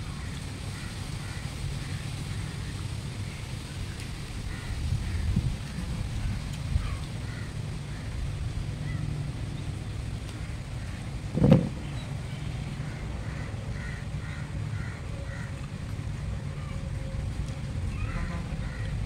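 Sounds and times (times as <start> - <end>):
faint bird calls: 0.1 - 15.8, 17.9 - 19.0.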